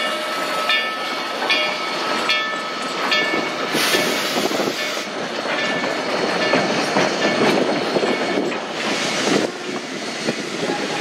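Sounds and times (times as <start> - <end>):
knocks and clanks of rail cars: 0.0 - 11.0
train wheels clicking over rail joints: 0.7 - 10.7.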